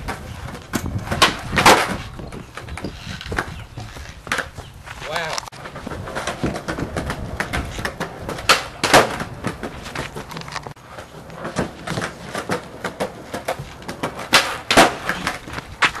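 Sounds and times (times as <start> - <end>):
skateboard wheels rolling on concrete: 0.0 - 16.0
skateboard wooden clacks: 0.0 - 16.0.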